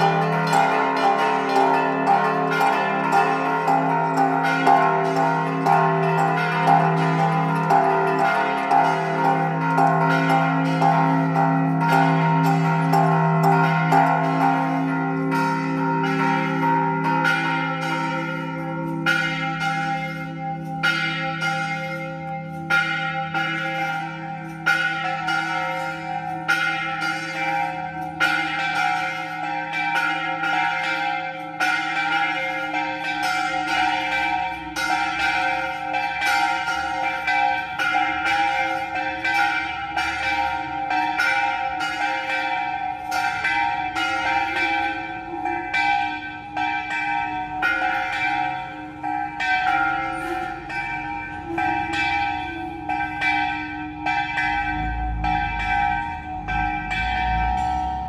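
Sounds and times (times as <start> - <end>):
church bells ringing a peal: 0.0 - 58.0.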